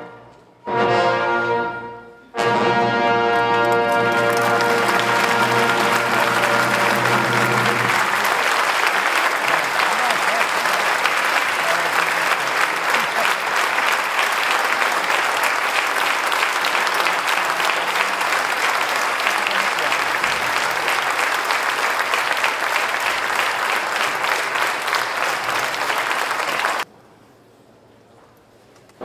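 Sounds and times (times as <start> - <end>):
audience applauding: 3.3 - 26.9.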